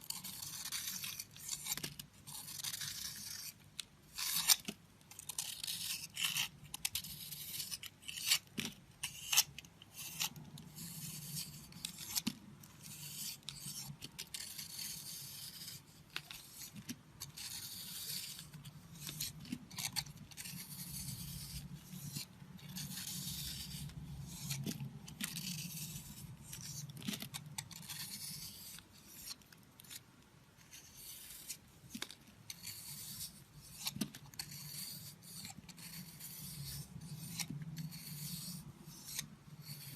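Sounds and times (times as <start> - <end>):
blade cutting soap: 0.0 - 39.9
blade scraping soap: 0.0 - 39.9.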